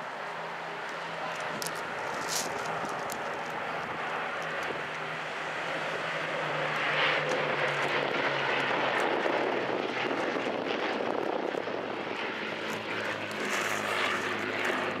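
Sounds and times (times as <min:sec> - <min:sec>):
propeller planes droning: 0:00.0 - 0:15.0.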